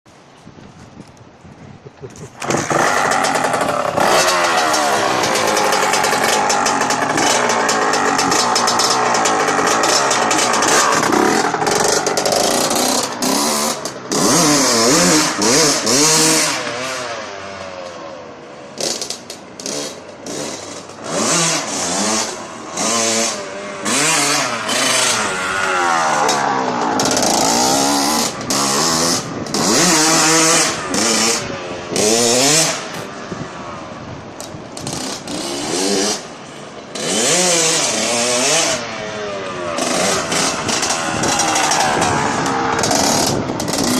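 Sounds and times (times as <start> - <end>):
dirt bike engine revving: 2.4 - 18.0, 18.7 - 33.5, 34.5 - 43.9.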